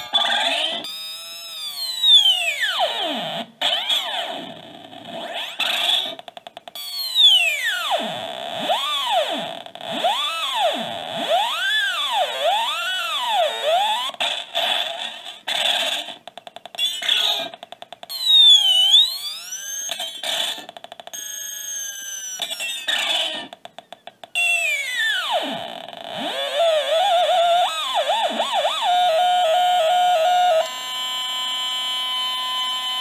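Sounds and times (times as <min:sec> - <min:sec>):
glitchy electronic toy noise: 0:00.0 - 0:33.0.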